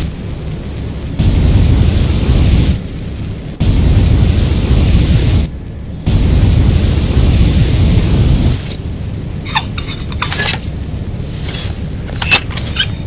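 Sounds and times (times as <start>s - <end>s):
flamethrower roaring blasts: 0.0s - 12.8s.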